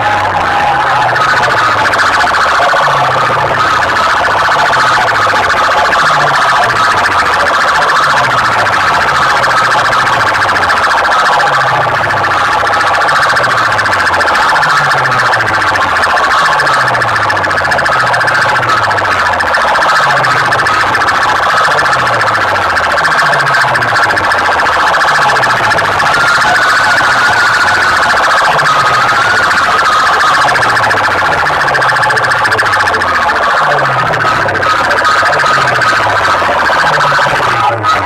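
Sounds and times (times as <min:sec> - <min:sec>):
pulsing siren-like electronic tone: 0:00.0 - 0:38.0.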